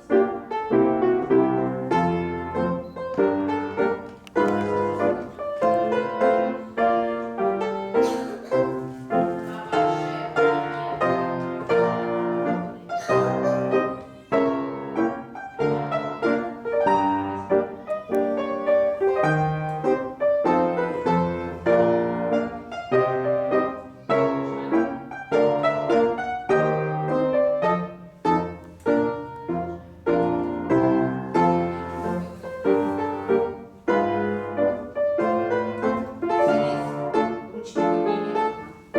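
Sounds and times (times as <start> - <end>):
piano accompaniment: 0.0 - 38.9.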